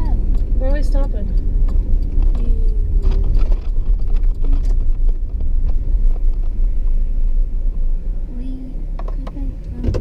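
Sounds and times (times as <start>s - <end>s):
truck road and engine rumble: 0.0s - 10.0s.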